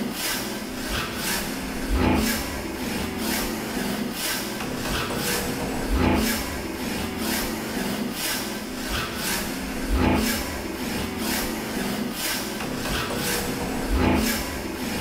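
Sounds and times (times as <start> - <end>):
rhythmic rasping scraping strokes: 0.0 - 15.0.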